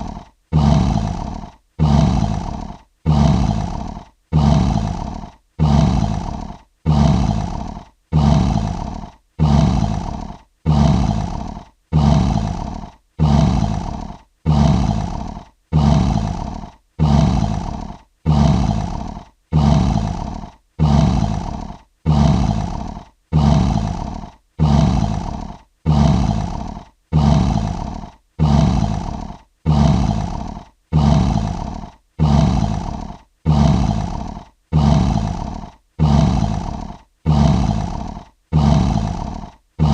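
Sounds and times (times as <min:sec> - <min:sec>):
lion roar: 0:00.0 - 0:39.9.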